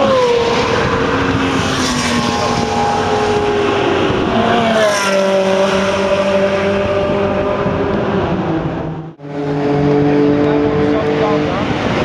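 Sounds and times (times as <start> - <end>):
race car engines: 0.0 - 12.0.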